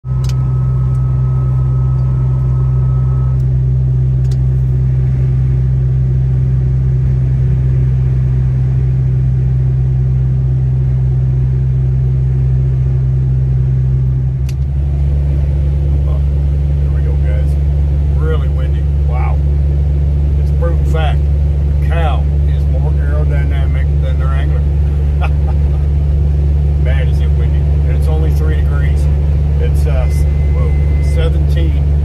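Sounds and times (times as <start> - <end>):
engine and road drone in cabin: 0.0 - 32.0.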